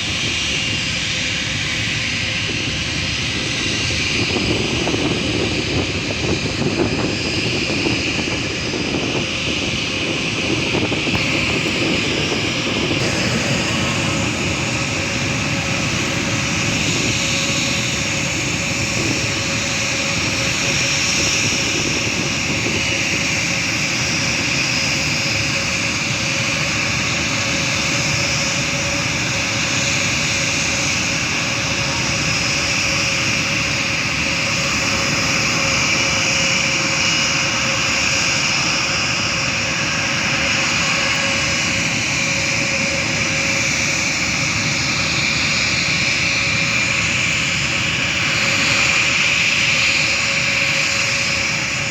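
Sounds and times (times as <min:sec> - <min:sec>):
jet engines running with high whine: 0:00.0 - 0:51.9.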